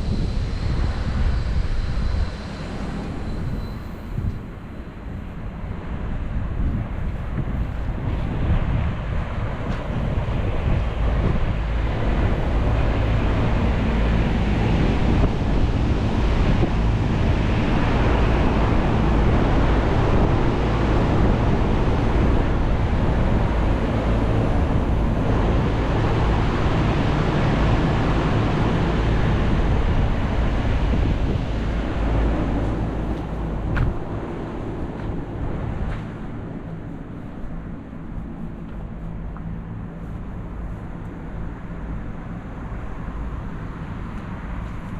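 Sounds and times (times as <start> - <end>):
heat pump fan rushing: 0.0 - 44.9
low hum: 0.0 - 44.9.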